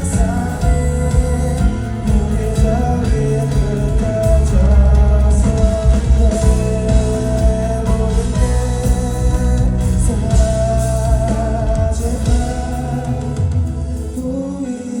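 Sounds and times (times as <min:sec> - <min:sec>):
live band playing: 0:00.0 - 0:15.0
person singing: 0:00.0 - 0:15.0.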